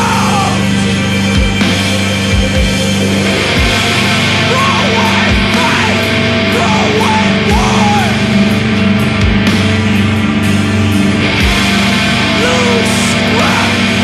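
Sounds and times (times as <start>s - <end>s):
heavy bass and guitar drone: 0.0s - 14.0s
slow heavy drum hits: 0.0s - 14.0s.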